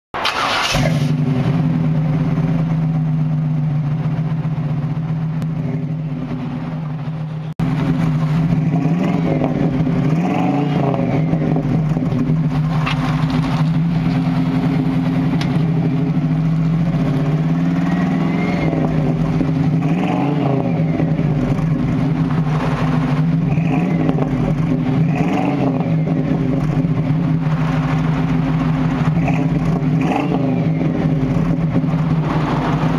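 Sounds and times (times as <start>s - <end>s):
car engine idling: 0.2s - 32.9s
engine throttle blips: 0.2s - 32.9s.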